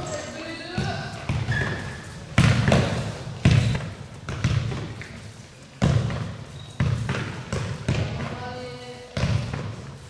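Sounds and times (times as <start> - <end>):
ball kicks echoing in sports hall: 0.0 - 10.0.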